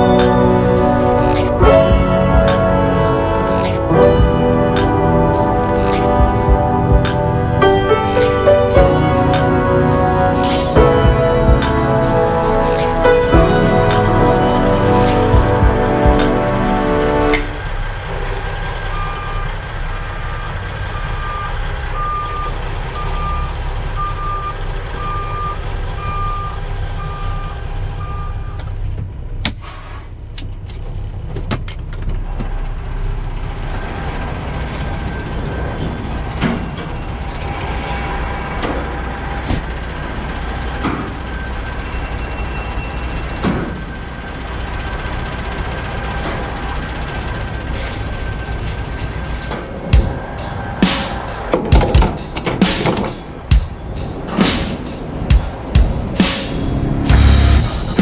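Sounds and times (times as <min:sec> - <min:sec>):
truck backup alarm beeping: 0:00.0 - 0:28.8, 0:33.8 - 0:54.5
diesel engine idling: 0:00.0 - 0:29.4, 0:30.1 - 0:58.0.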